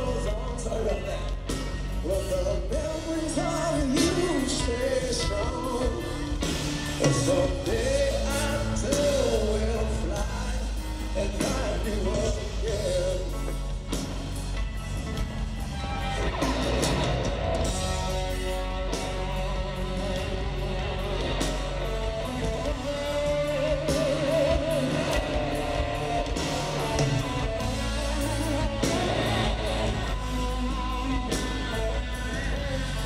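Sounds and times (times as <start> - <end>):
rock band playing live: 0.0 - 33.0.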